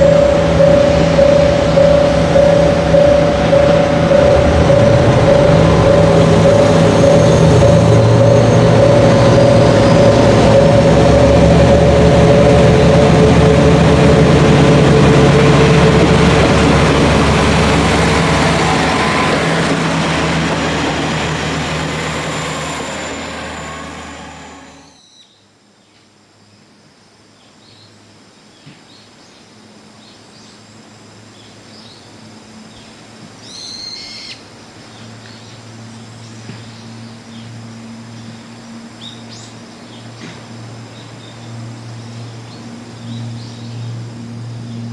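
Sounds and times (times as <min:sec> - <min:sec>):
diesel railcar engine drone: 0:00.0 - 0:28.4, 0:29.0 - 0:44.9.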